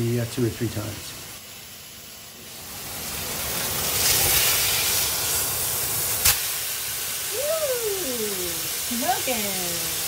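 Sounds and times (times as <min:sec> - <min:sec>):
steak sizzling in a skillet: 0:00.0 - 0:10.0.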